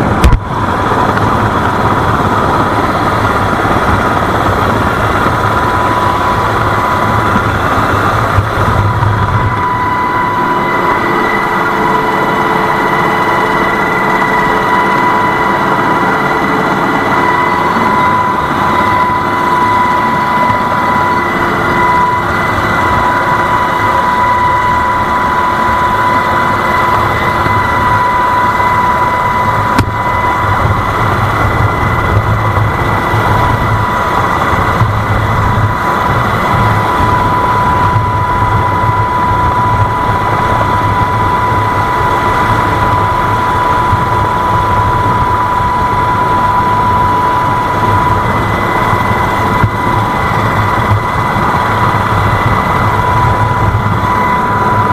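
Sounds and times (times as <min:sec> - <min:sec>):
heavy engine running: 0:00.0 - 0:54.9
high-pitched whine: 0:00.0 - 0:54.9.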